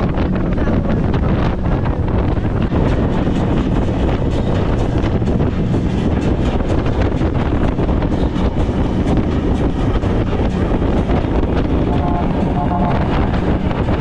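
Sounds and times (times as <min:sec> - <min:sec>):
speedboat engine rumble: 0:00.0 - 0:14.0
wind buffeting microphone: 0:00.0 - 0:14.0.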